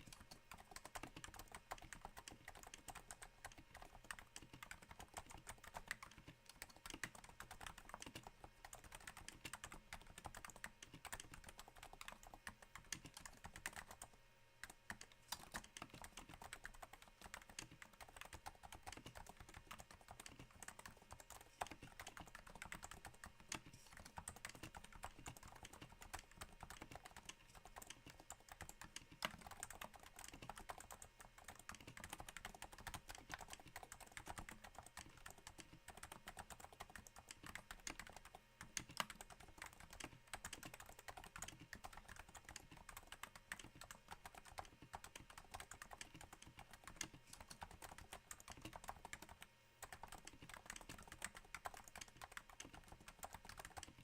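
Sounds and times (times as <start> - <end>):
soft keyboard typing: 0.0 - 54.0.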